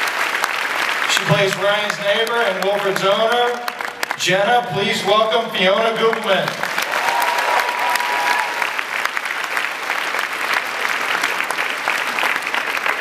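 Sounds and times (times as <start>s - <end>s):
audience applauding: 0.0s - 5.1s, 5.7s - 13.0s.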